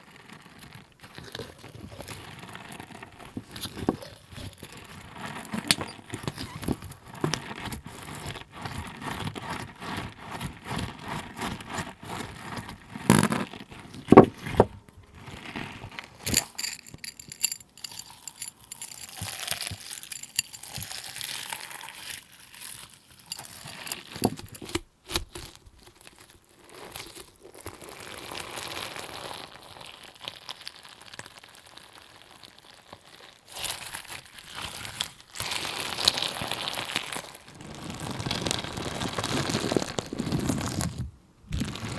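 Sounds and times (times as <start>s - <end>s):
slime squishing by hand: 0.0s - 41.9s.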